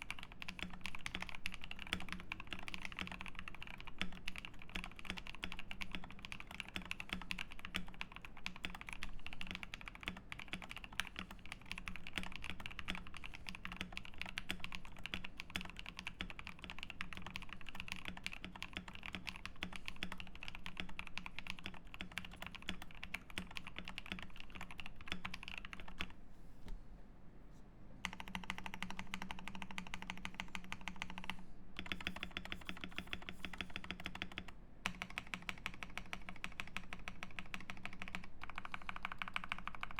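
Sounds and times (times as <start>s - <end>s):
fast mechanical keyboard typing: 0.0s - 26.1s, 28.0s - 39.9s.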